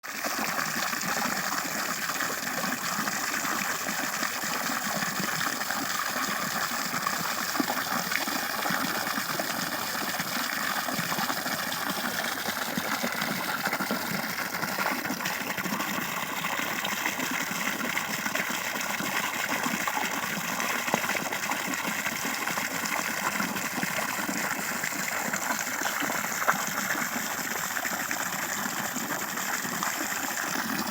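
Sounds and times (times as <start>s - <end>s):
water rushing: 0.8s - 30.9s.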